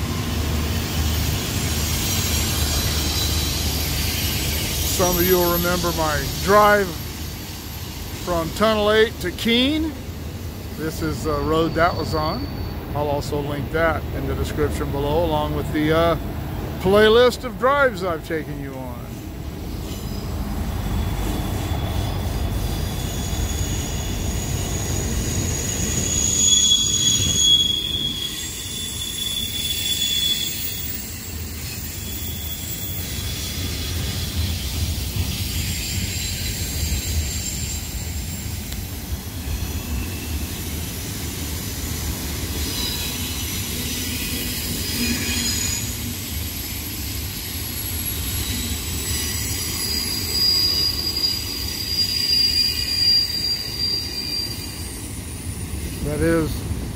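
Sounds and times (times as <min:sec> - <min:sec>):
low rumble of train: 0:00.0 - 0:56.9
train wheels squealing on rail: 0:00.0 - 0:56.9.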